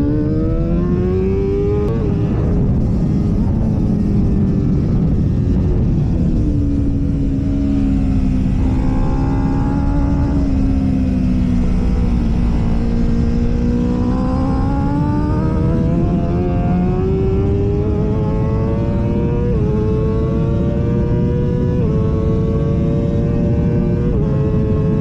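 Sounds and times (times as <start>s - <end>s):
motorcycle engine accelerating: 0.0s - 25.0s
wind rush: 0.0s - 25.0s.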